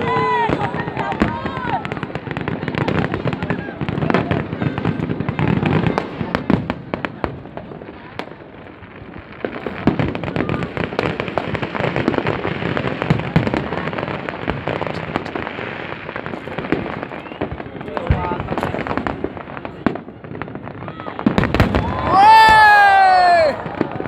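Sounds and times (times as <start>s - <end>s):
fireworks bangs and crackles: 0.0s - 24.0s
voices of onlookers: 0.0s - 24.0s.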